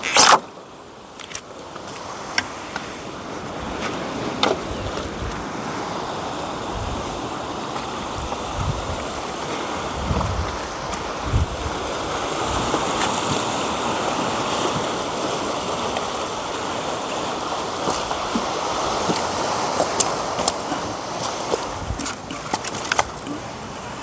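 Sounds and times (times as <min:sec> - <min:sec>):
outdoor rush of wind: 0:00.0 - 0:24.0.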